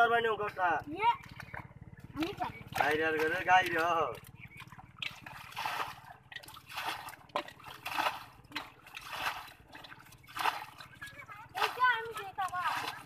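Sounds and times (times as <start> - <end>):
hands splashing in muddy water: 1.2 - 13.0.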